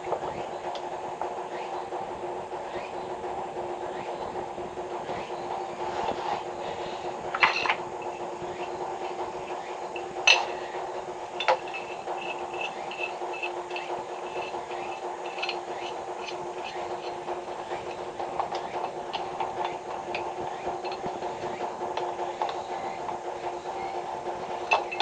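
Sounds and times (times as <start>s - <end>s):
steady multi-tone hum: 0.0s - 25.0s.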